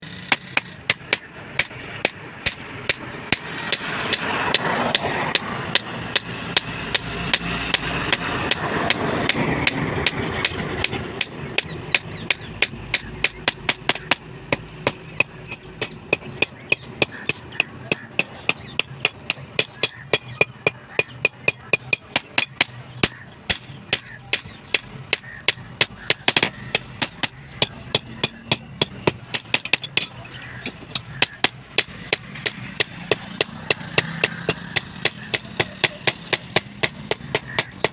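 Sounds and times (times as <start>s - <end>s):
rushing background noise: 0.0s - 37.9s.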